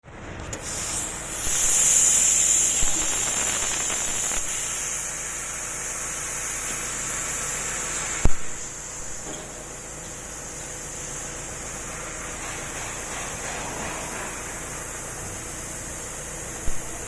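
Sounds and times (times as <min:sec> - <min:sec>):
plasma cutter hissing: 0:00.6 - 0:17.0.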